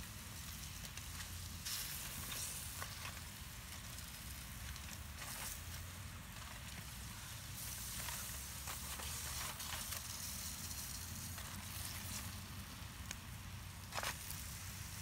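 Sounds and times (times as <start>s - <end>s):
chicken sizzling in skillet: 0.0s - 15.0s.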